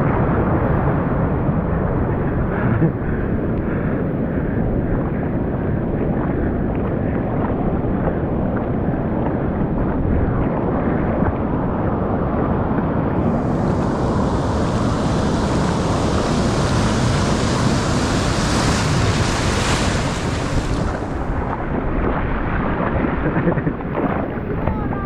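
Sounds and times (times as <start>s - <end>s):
ocean surf: 0.0s - 25.0s
wind buffeting microphone: 0.0s - 25.0s.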